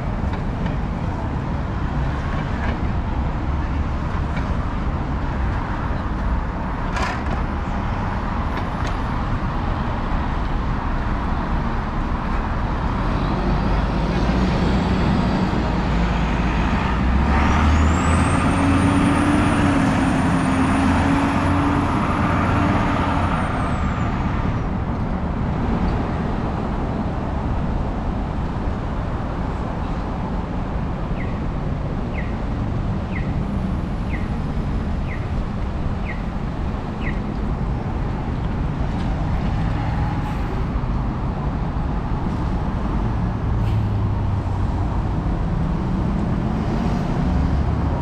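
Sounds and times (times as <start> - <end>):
traffic rumble: 0.0 - 48.0.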